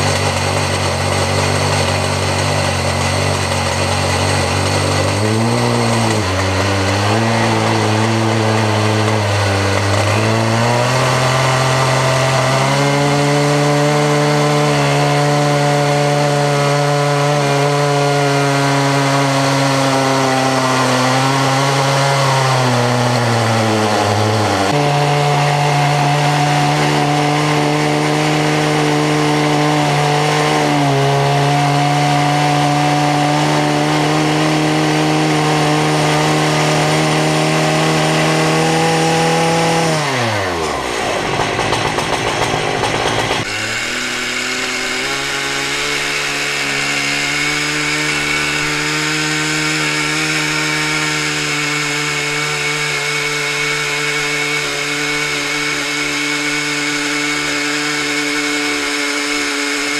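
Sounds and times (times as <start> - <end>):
chainsaws ripping a log: 0.0 - 59.9.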